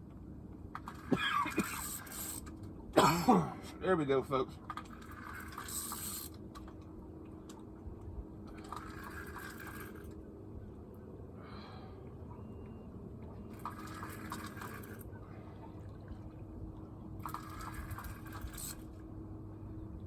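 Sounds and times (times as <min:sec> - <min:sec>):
faint steady hum: 0:00.0 - 0:20.0
water lapping against boat hull: 0:00.6 - 0:10.3, 0:11.6 - 0:19.2.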